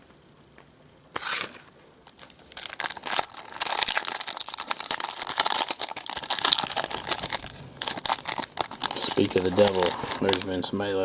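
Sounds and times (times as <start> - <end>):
wrapper tearing and crinkling: 1.2 - 10.6.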